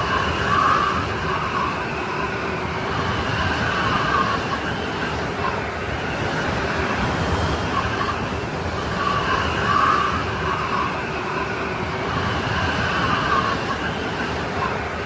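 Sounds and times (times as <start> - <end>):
snowstorm wind whistling: 0.0 - 15.0.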